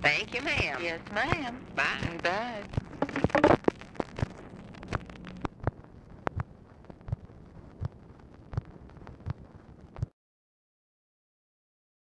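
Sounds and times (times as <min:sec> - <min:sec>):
recording hiss with clicks and pops: 0:00.0 - 0:10.2.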